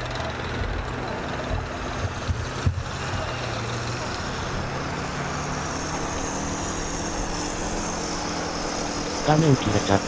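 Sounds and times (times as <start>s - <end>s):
tracked vehicle engine drone: 0.0s - 10.0s.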